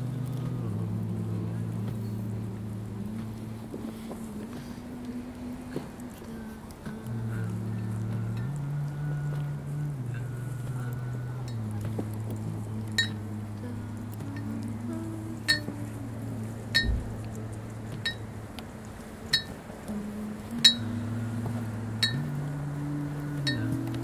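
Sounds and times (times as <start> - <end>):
long held low notes: 0.0 - 24.0.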